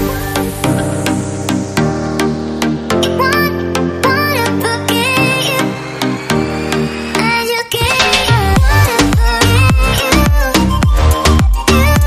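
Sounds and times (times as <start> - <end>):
deep bass beat: 0.0 - 3.9, 5.5 - 12.0
background music with held chords: 0.0 - 12.0.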